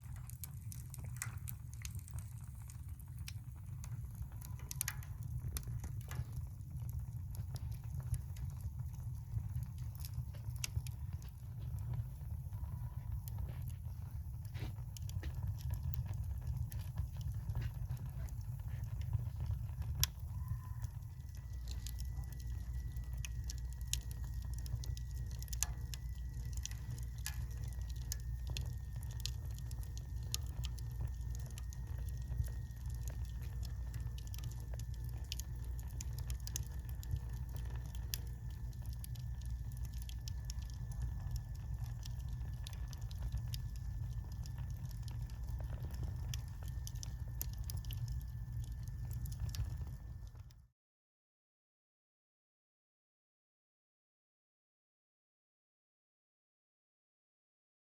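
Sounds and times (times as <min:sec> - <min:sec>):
wood fire crackling and popping: 0:00.0 - 0:50.6
stove low rumble: 0:00.0 - 0:50.7.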